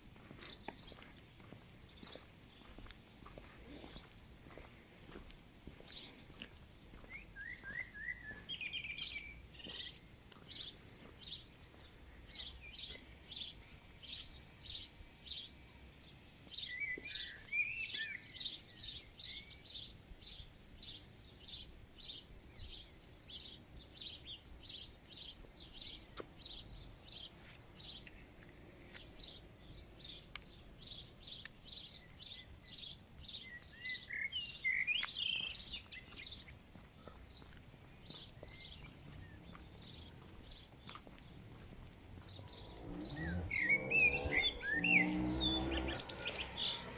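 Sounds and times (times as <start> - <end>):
birds twittering: 5.6 - 46.9.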